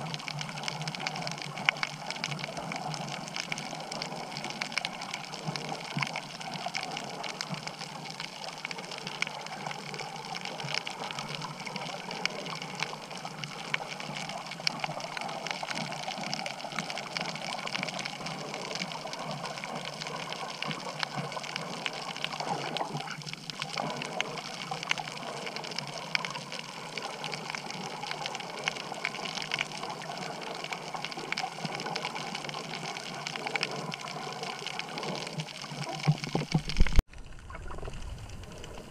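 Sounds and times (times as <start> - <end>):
small crackling clicks: 0.0 - 38.9
underwater rush of moving water: 0.0 - 38.9.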